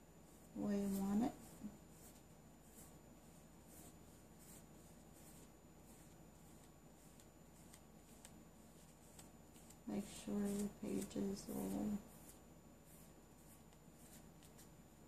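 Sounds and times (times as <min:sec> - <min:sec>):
paintbrush scratching on paper: 0:00.2 - 0:14.8.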